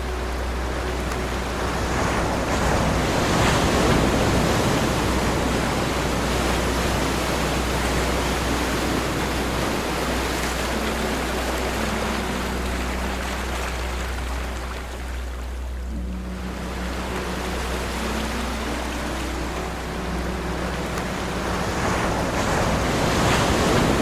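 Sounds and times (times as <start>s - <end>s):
low rumble: 0.0s - 24.0s
ocean waves washing: 0.0s - 24.0s.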